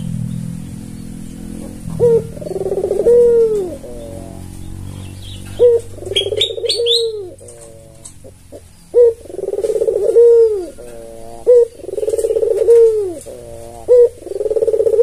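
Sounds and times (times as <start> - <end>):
dove cooing: 0.0 - 15.0
low steady drone: 0.0 - 15.0.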